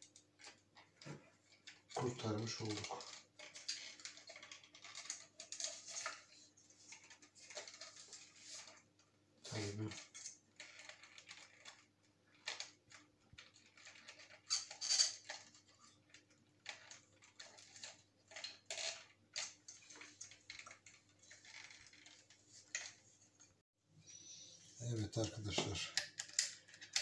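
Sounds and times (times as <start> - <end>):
small parts clicking and tapping: 0.0 - 23.6, 25.2 - 27.0.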